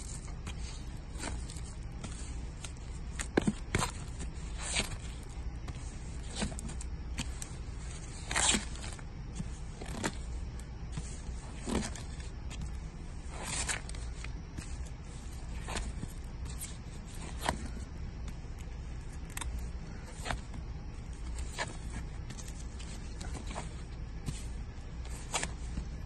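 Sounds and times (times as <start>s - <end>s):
faint low hum: 0.0s - 26.0s
record sleeves sliding: 0.0s - 26.0s.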